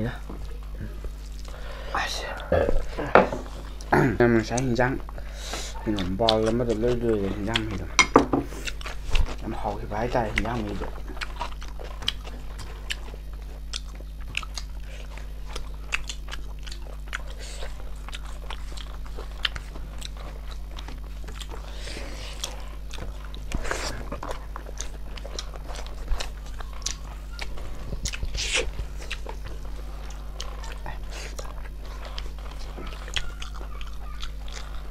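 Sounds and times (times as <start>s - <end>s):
chewing clicks and smacks: 5.8s - 7.9s, 8.6s - 34.9s.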